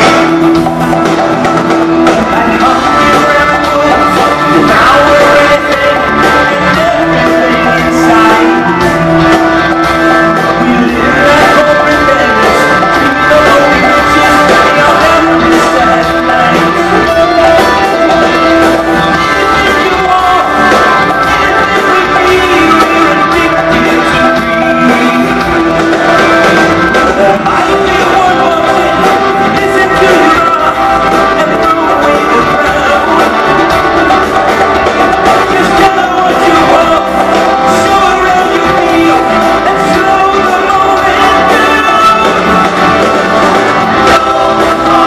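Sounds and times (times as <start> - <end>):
live rock band playing: 0.0 - 45.0
man singing lead: 0.0 - 45.0.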